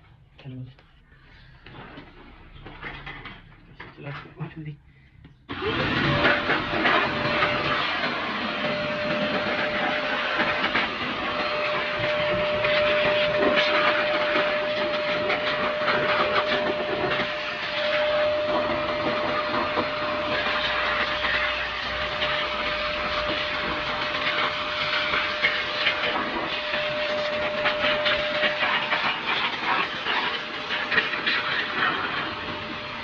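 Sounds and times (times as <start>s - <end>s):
electric air blower running: 5.5s - 33.0s.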